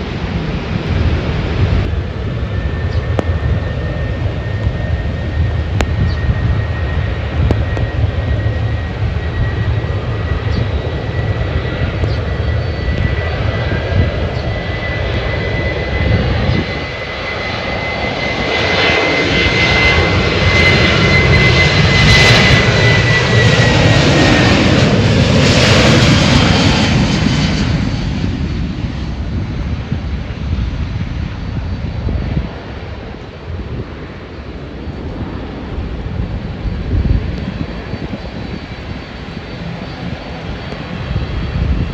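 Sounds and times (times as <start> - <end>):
jet engines passing: 0.0 - 41.9
wind buffeting microphone: 0.0 - 41.9.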